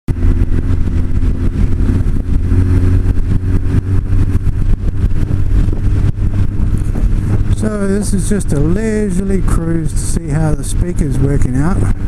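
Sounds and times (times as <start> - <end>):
motorcycle engine cruising: 0.1 - 12.0
wind flapping on microphone: 0.1 - 12.0.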